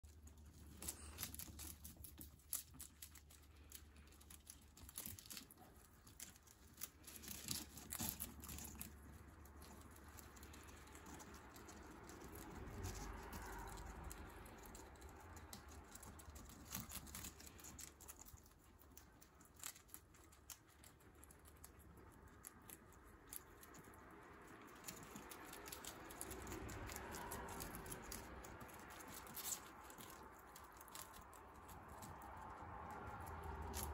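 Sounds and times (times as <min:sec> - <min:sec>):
guinea pigs chewing greens: 0:00.0 - 0:33.9.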